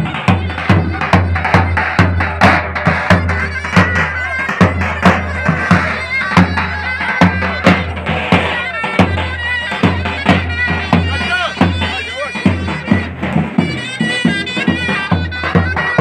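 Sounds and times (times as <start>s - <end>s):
drum beat: 0.0s - 16.0s
reedy wind melody: 0.0s - 16.0s.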